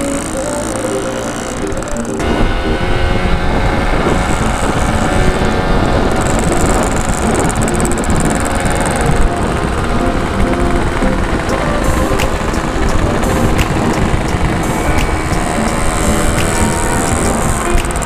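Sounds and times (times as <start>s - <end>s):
background music: 0.0s - 18.0s
two-stroke motorcycle engine: 0.0s - 18.0s
wind rush: 2.2s - 18.0s.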